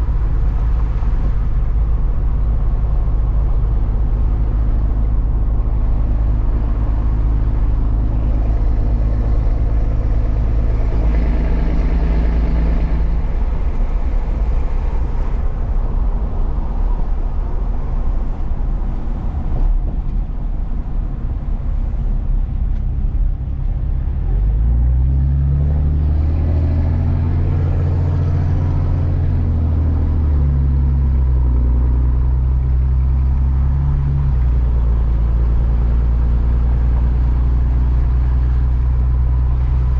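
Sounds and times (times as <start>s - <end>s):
road hum: 0.0s - 39.9s
truck engine: 0.0s - 39.9s.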